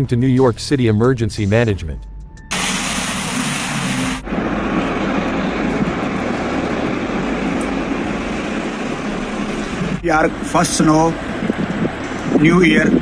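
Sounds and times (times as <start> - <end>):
city traffic noise: 2.5 - 13.0.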